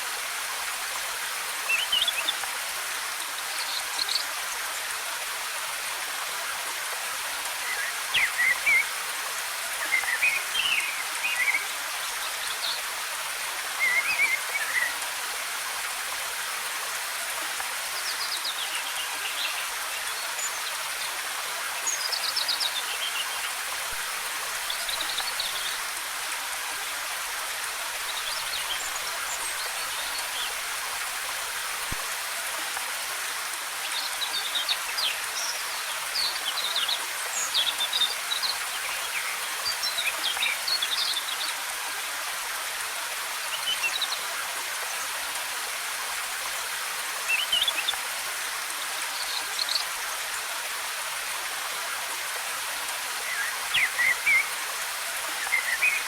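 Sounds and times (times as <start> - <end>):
waterfall hissing: 0.0 - 56.0.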